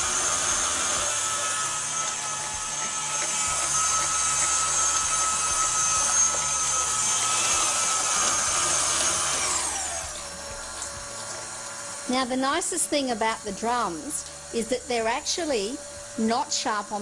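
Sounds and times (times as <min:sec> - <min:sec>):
stand mixer motor whine: 0:00.0 - 0:17.0.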